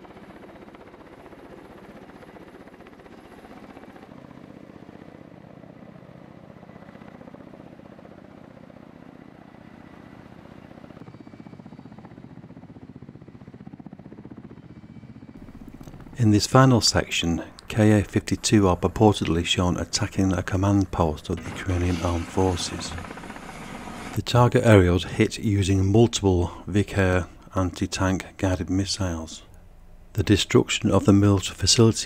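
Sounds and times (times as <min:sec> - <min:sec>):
helicopter rotor beat: 0:00.0 - 0:32.0.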